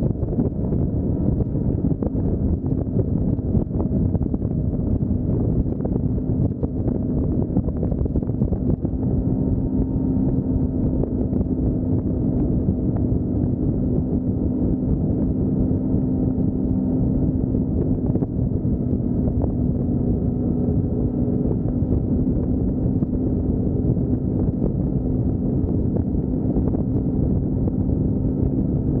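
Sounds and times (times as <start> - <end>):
motorcycle engine drone: 0.0 - 29.0
wind rushing over microphone: 0.0 - 29.0.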